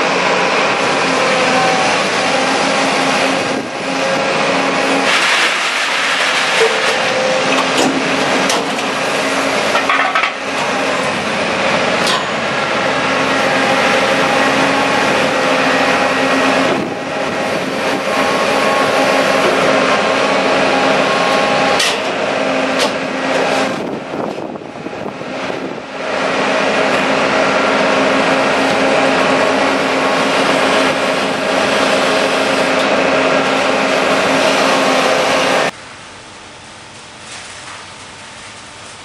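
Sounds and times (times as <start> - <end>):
hay baler running: 0.0 - 39.0.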